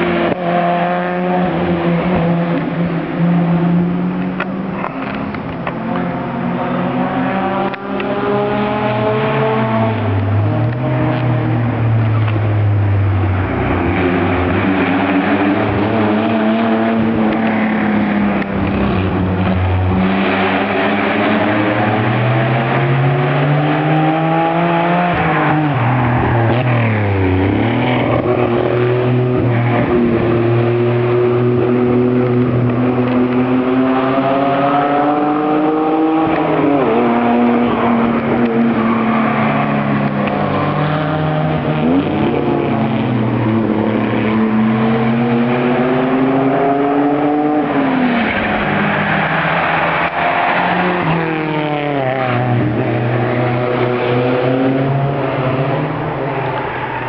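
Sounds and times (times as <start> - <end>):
car engine accelerating through gears: 0.0 - 57.0.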